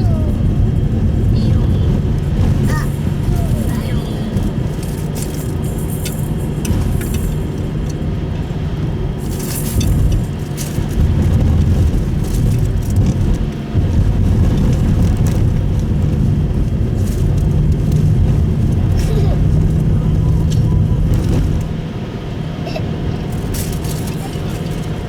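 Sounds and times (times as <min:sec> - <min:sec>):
engine and tyre rumble: 0:00.0 - 0:25.0.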